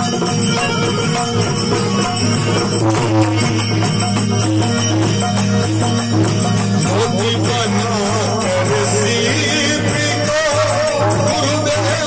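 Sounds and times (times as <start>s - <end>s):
hand drum beating: 0.0s - 12.0s
harmonium held notes: 0.0s - 12.0s.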